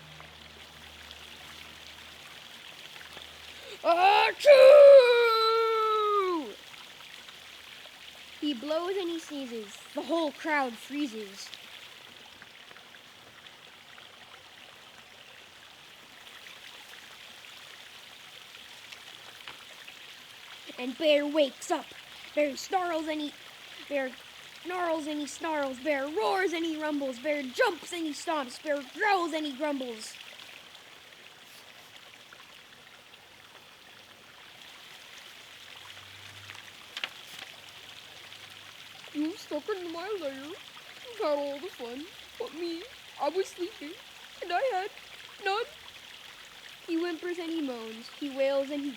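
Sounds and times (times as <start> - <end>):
faint steady hiss: 0.0 - 48.9.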